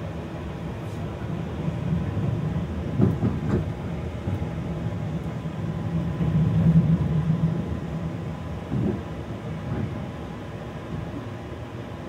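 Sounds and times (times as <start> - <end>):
train wheels rumbling: 0.7 - 11.4.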